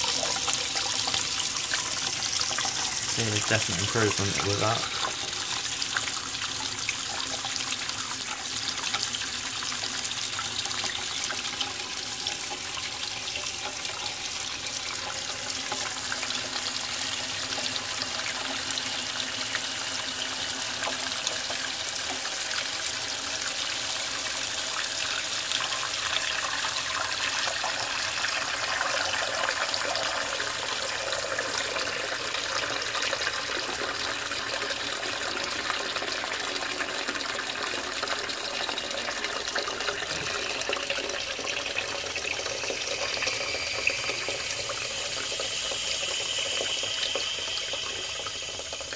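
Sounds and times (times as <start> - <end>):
water jetting into cistern: 0.0 - 48.9.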